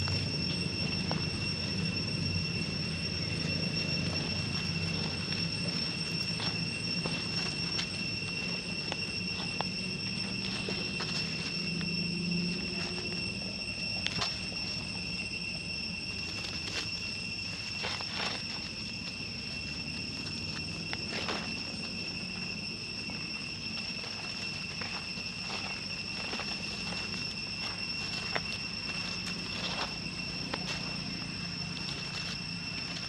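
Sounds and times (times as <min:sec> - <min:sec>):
insects chirring: 0:00.0 - 0:33.0
rustles: 0:00.0 - 0:33.0.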